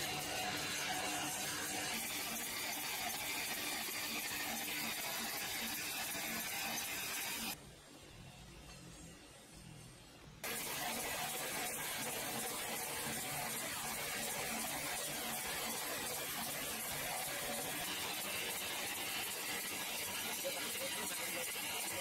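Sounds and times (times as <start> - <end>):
sawmill machinery running: 0.0 - 7.6, 10.4 - 22.0.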